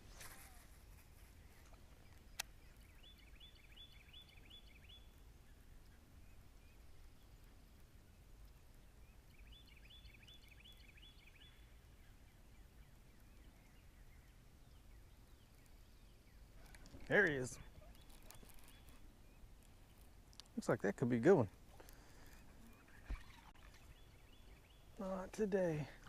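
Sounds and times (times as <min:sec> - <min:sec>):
songbird singing: 0:00.0 - 0:26.0.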